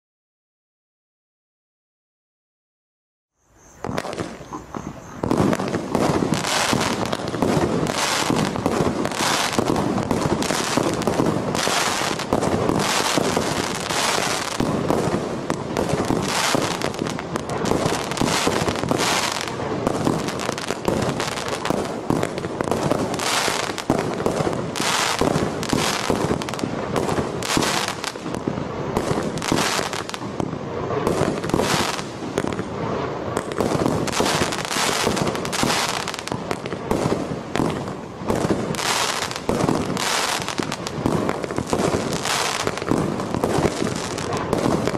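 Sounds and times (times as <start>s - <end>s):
fireworks bursting with loud bangs: 3.7s - 44.9s.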